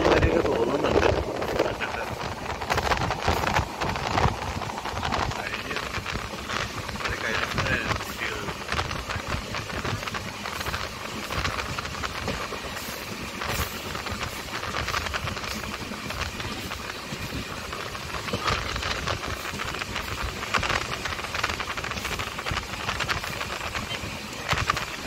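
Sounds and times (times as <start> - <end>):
rushing air: 0.0 - 25.0
train wheels rumbling on rails: 0.0 - 25.0.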